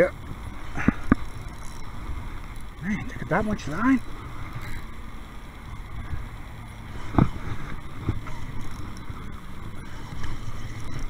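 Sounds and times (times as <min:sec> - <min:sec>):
low rumble of kayak on water: 0:00.0 - 0:11.0.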